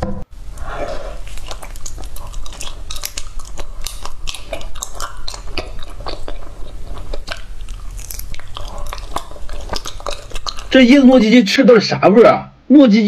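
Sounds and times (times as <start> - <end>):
biting and chewing: 0.5 - 11.2.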